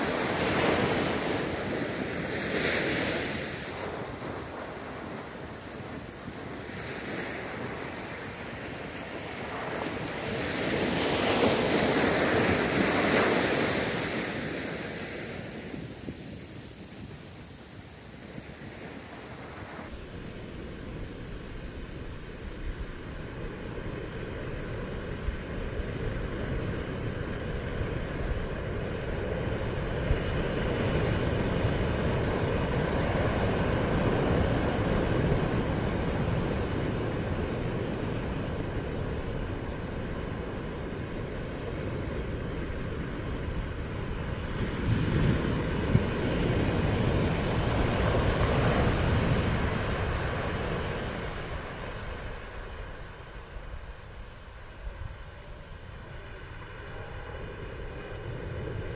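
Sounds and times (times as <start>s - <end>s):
waves washing up beach: 0.0s - 19.9s, 20.6s - 58.9s.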